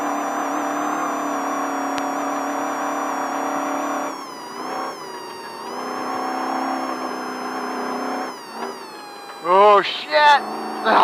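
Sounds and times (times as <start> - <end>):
race vehicle engine at high revs: 0.0 - 11.0.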